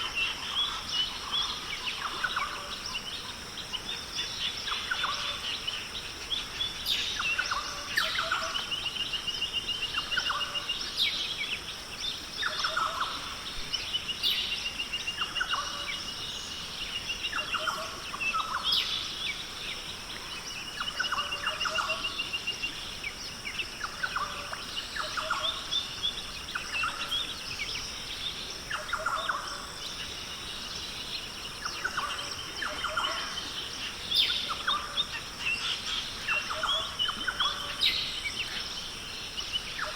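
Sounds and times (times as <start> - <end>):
birds calling with trills: 0.0 - 39.9.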